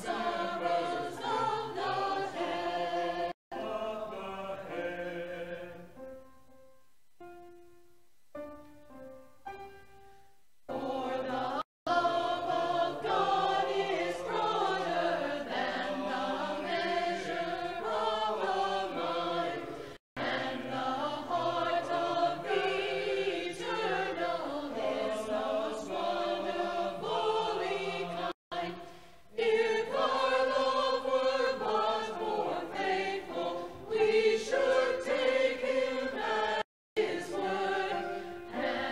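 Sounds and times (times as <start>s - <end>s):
mixed choir singing: 0.0s - 6.0s, 10.7s - 38.9s.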